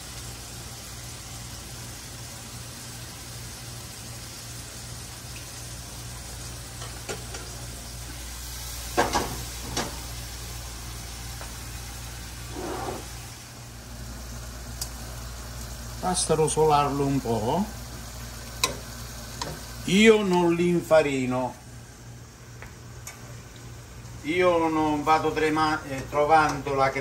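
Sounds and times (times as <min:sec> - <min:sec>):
fish sizzling in oil: 0:00.0 - 0:27.0.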